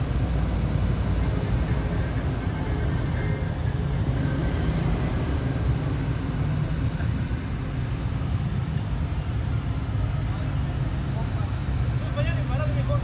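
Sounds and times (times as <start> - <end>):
vehicle engines rumbling past: 0.0 - 13.0.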